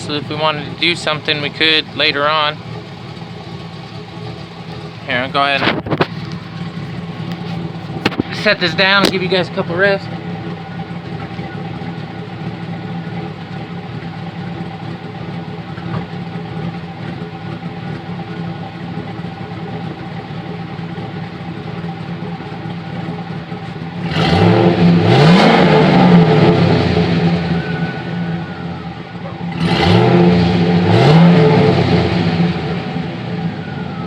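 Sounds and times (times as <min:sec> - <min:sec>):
truck engine idling and revving: 0:00.0 - 0:34.0.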